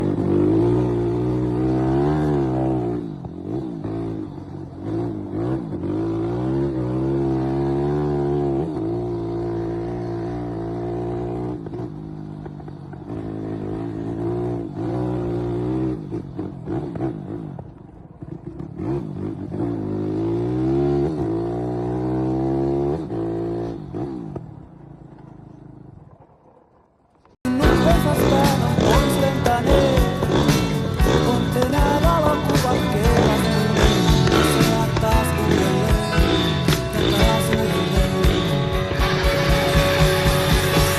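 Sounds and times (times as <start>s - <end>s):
vehicle engine revving: 0.0s - 26.0s, 27.5s - 40.9s.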